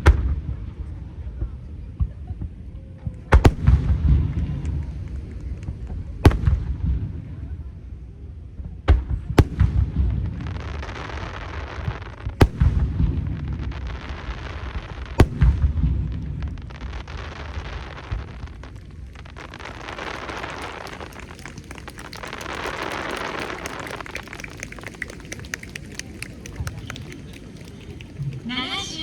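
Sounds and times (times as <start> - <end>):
fireworks booming: 3.3 - 7.8, 8.8 - 29.0
fireworks crackling: 3.4 - 7.8, 9.4 - 29.0.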